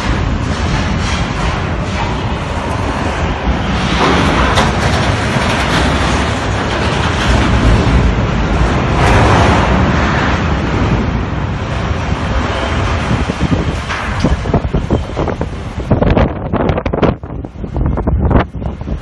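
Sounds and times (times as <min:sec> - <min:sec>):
storm wind rushing: 0:00.0 - 0:19.0.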